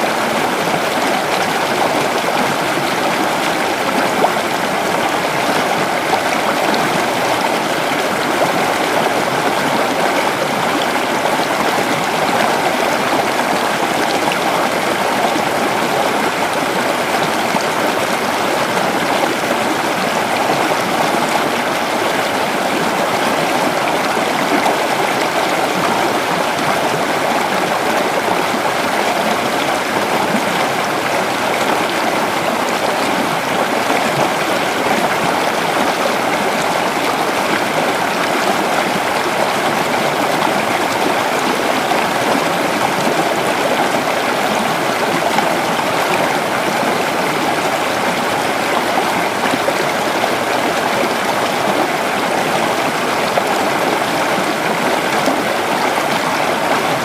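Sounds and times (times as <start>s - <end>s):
creek water flowing over rocks: 0.0s - 57.0s.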